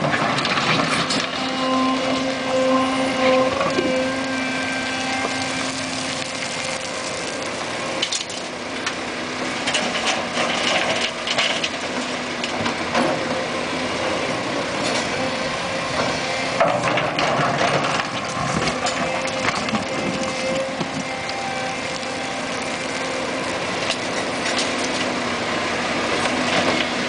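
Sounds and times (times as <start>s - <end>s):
excavator diesel engine under load: 0.0s - 27.0s.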